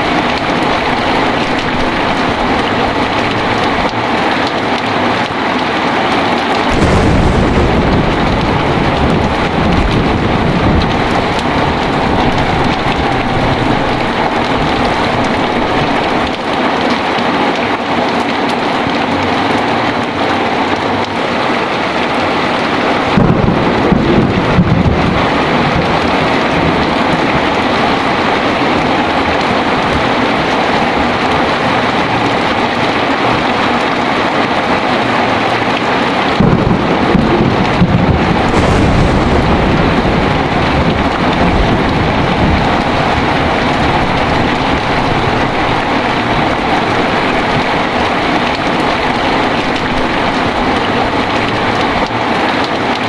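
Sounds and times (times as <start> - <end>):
low rumble of thunder: 0.0 - 4.2, 6.6 - 16.6, 22.3 - 33.6, 35.1 - 53.0
heavy rain falling: 0.0 - 53.0.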